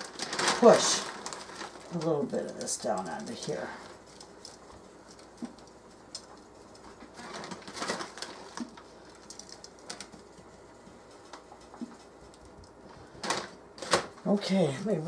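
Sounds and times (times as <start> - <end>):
breadcrumbs pressed by hand: 0.0 - 13.9
plastic bag rustling: 0.0 - 15.0.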